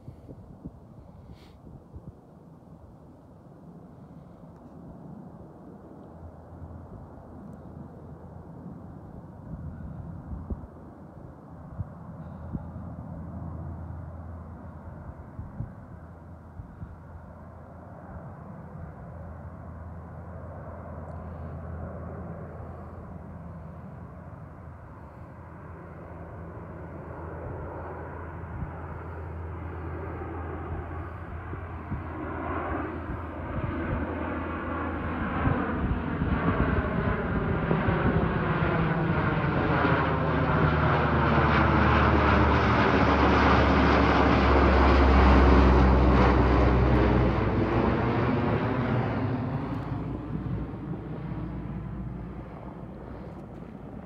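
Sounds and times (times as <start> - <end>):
turboprop plane flying over: 0.0 - 54.0.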